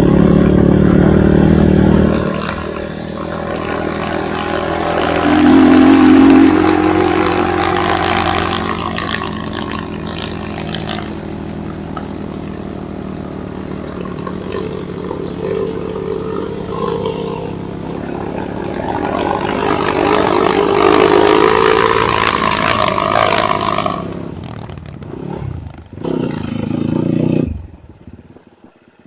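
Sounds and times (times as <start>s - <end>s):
dirt bike engine running: 0.0s - 28.8s.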